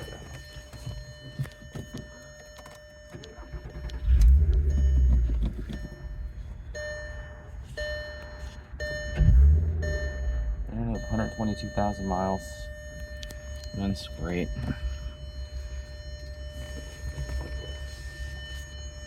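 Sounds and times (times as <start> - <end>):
car warning chime beeping: 0.0 - 19.0
car engine revving and idling: 3.2 - 18.8.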